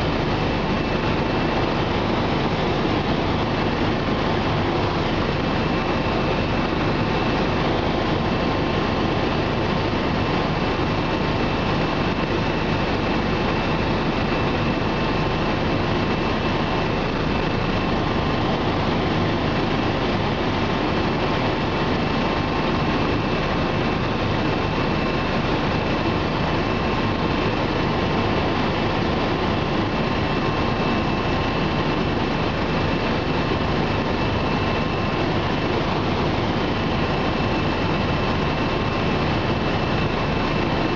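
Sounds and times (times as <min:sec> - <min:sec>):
faint steady whine: 0:00.0 - 0:40.9
helicopter cabin engine and rotor noise: 0:00.0 - 0:40.9.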